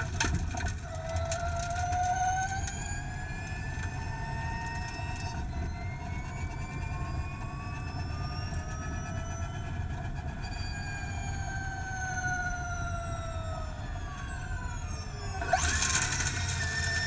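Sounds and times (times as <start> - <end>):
electric motor whining: 0.0 - 17.0
rumble of tyres on road: 0.0 - 17.0.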